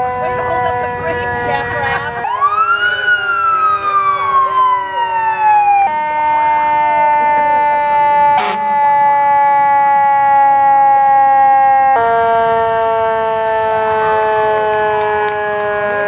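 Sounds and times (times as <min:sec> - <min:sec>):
fire truck siren wailing: 0:00.0 - 0:16.0.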